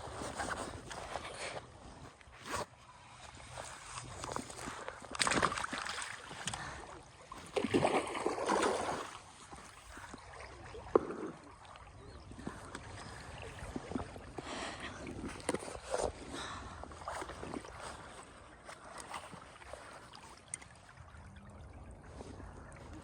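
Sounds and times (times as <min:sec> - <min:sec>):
river water splashing: 0:03.4 - 0:23.0.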